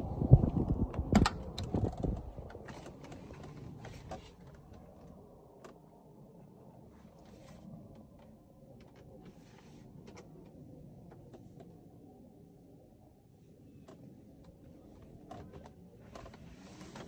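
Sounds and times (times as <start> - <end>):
faint clicks and rustles: 0.4 - 12.2, 13.5 - 17.0.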